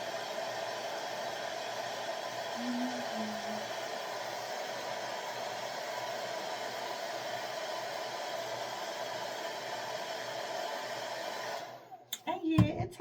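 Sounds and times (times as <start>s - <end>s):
hair dryer running: 0.0s - 12.7s.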